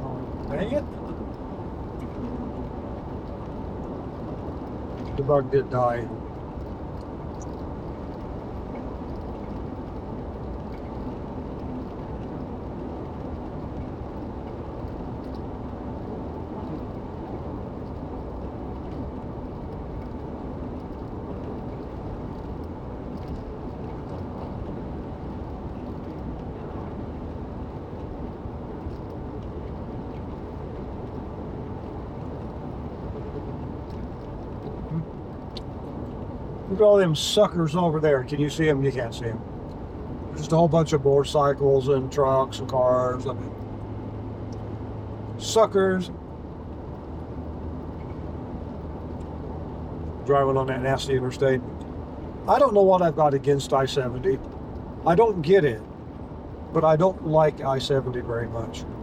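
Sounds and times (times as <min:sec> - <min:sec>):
car cabin road and engine rumble: 0:00.0 - 0:59.0.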